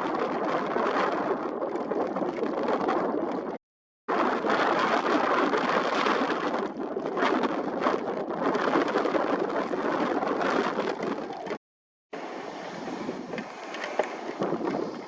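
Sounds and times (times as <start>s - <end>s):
gusty storm wind rushing: 0.0s - 11.6s, 12.2s - 15.0s.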